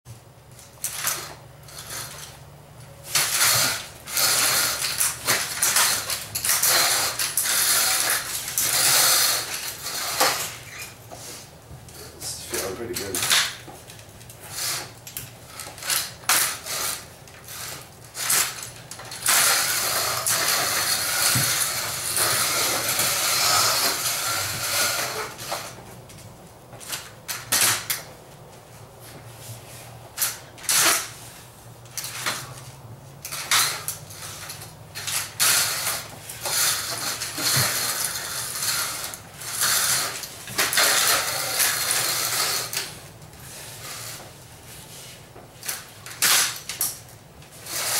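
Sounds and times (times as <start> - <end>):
skate wheels rolling on concrete: 0.1 - 47.9.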